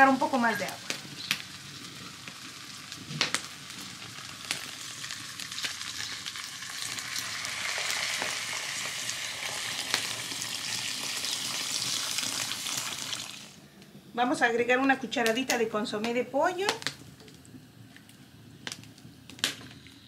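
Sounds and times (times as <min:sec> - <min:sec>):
corn sizzling in fat: 0:00.0 - 0:13.8, 0:15.1 - 0:20.0.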